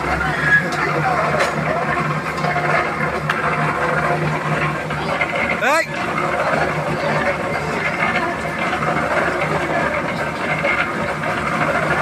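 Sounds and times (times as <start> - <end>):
concrete mixer engine droning: 0.0 - 12.0.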